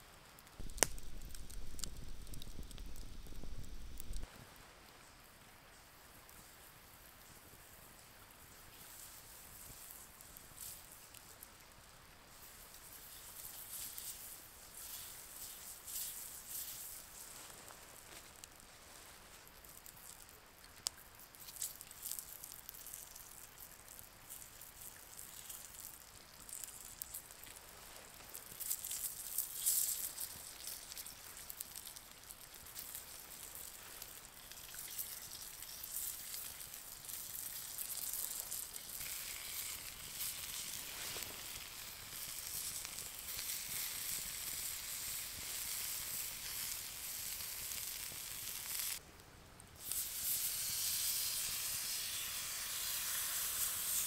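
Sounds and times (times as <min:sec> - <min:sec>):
vegetables sizzling on hot stone: 0:00.0 - 0:04.3, 0:08.5 - 0:49.0, 0:49.8 - 0:54.0
campfire crackling: 0:00.0 - 0:54.0
steak sizzling on hot stone: 0:00.3 - 0:04.3, 0:12.3 - 0:49.0, 0:49.8 - 0:54.0.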